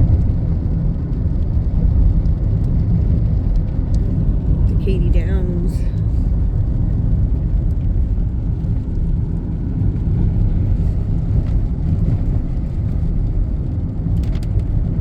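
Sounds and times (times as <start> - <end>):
car engine: 0.0 - 15.0.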